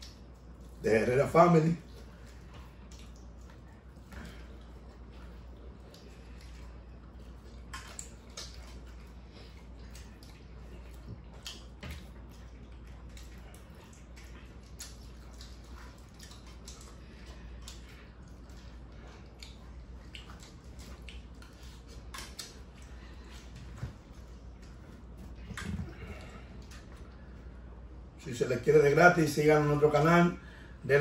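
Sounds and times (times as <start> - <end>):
wet chewing and mouth smacks: 0.0 - 0.8, 1.8 - 28.2
low hum: 0.0 - 31.0.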